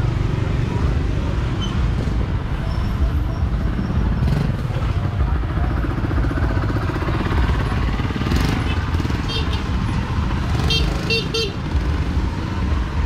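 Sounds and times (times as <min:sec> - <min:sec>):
motorbike engines running: 0:00.0 - 0:13.0.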